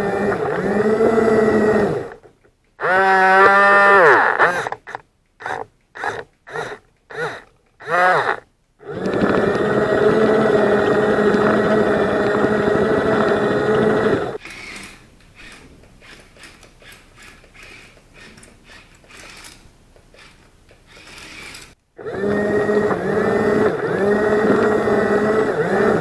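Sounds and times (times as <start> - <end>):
machine motor whining: 0.0 - 26.0
scattered clicks: 0.1 - 21.8.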